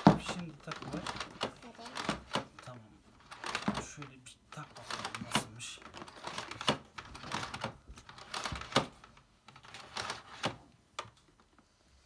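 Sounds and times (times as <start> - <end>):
plastic clicks and knocks: 0.0 - 4.0, 4.6 - 11.5.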